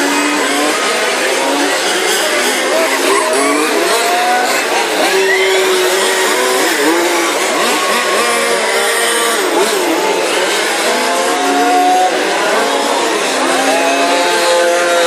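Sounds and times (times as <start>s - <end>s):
model car engines racing: 0.0s - 15.0s.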